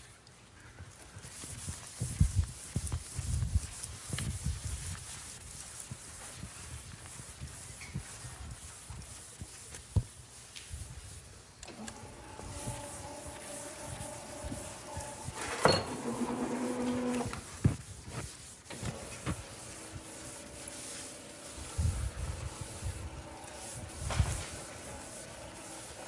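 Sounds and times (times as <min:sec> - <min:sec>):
chalk scratching on blackboard: 0:01.2 - 0:11.3, 0:11.9 - 0:26.0.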